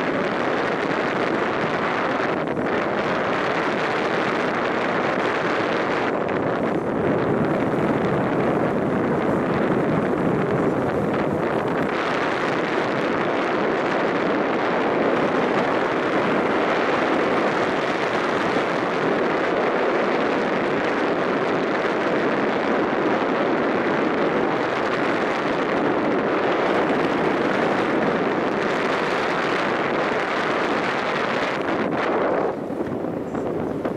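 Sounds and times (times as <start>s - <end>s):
wind and boat rushing noise: 0.0s - 33.9s.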